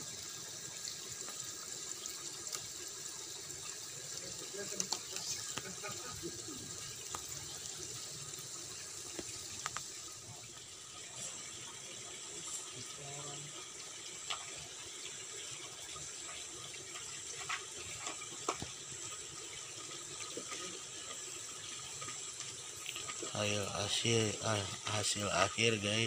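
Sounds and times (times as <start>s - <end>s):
water running: 0.0s - 26.0s.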